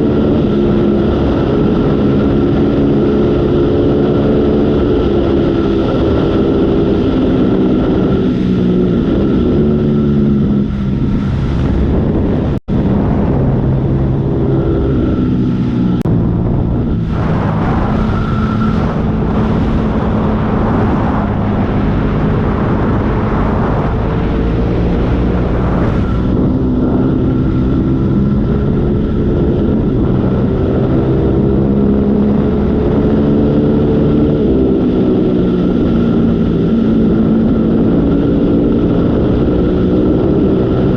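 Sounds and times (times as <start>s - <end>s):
wind noise: 0.0s - 40.9s.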